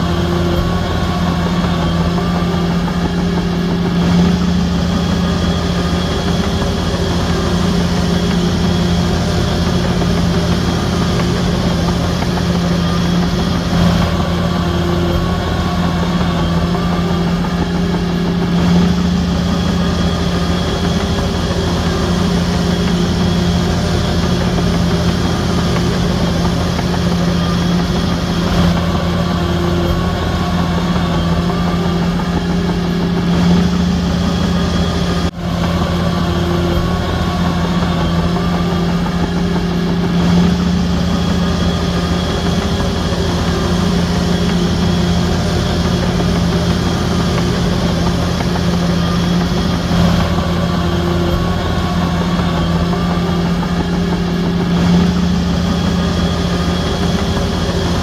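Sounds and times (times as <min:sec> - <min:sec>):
bulldozer diesel engine droning: 0:00.0 - 0:58.0
faint whine: 0:00.0 - 0:58.0.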